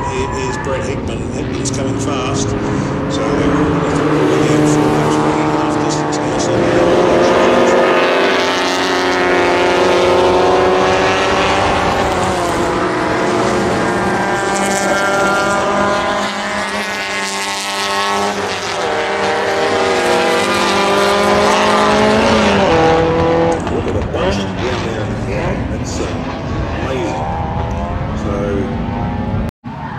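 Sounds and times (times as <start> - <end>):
race car engines at high revs: 0.0 - 29.9.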